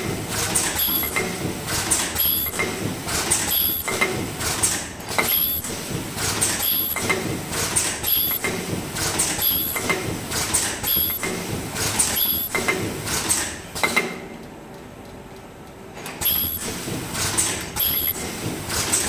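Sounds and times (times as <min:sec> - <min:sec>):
machine clacking: 0:00.0 - 0:15.2, 0:15.9 - 0:19.0.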